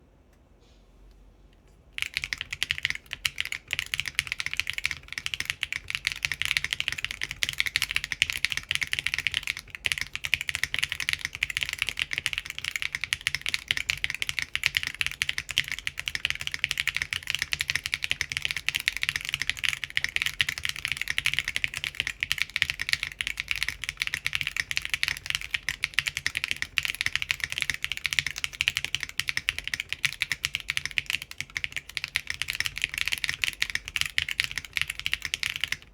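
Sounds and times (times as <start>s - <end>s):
fast typing on mechanical keyboard: 2.0s - 35.9s.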